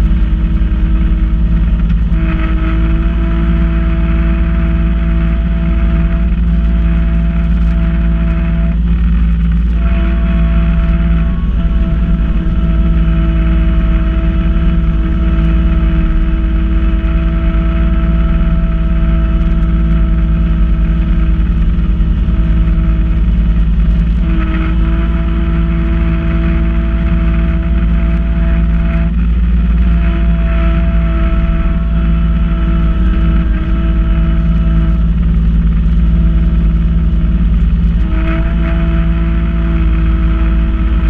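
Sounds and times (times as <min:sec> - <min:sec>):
diesel tractor engine rumble: 0:00.0 - 0:41.0
snow blower whine: 0:00.0 - 0:41.0.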